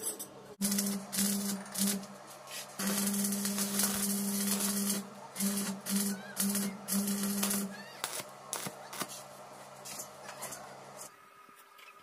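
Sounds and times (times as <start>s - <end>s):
welding arc crackling: 0.6s - 10.6s
welding machine electrical hum: 0.6s - 11.1s.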